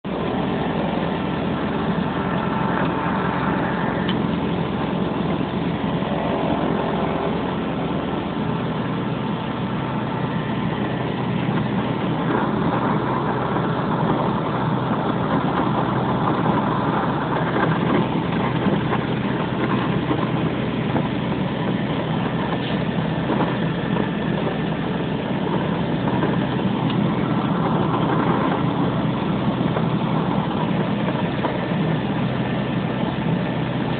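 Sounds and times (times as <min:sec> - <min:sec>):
light plane engine running: 0:00.0 - 0:33.9.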